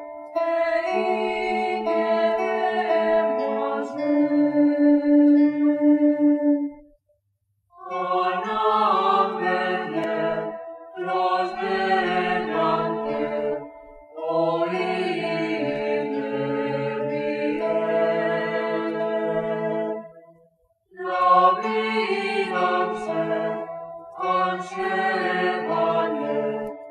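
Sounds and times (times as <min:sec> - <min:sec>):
choir singing chant: 0:00.4 - 0:06.6, 0:07.8 - 0:20.3, 0:21.0 - 0:26.9.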